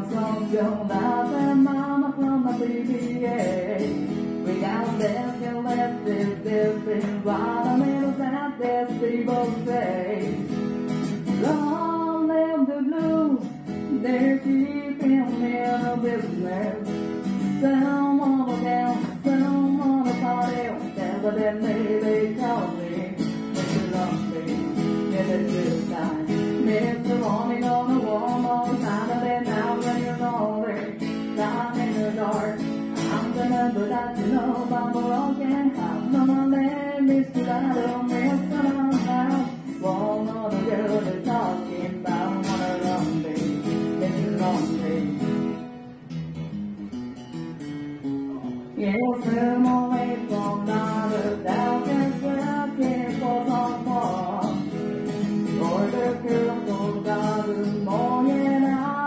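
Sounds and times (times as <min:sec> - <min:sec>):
guitar music: 0:00.0 - 0:59.0.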